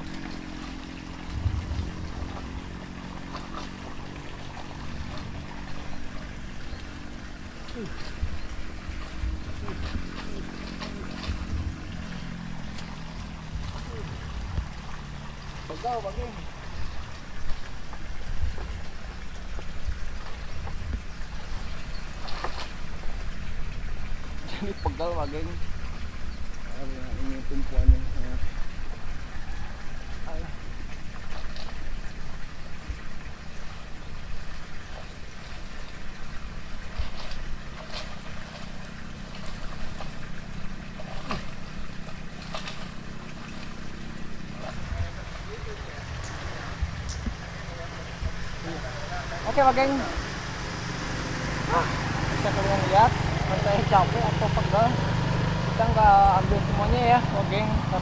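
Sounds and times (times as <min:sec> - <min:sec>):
low rumble on microphone: 0:00.0 - 0:15.6, 0:16.4 - 0:49.3
pole rustling branches and leaves: 0:00.0 - 0:58.0.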